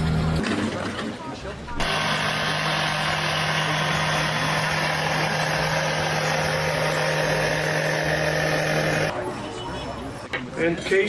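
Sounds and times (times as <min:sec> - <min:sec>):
engine running steadily: 0:00.0 - 0:09.1.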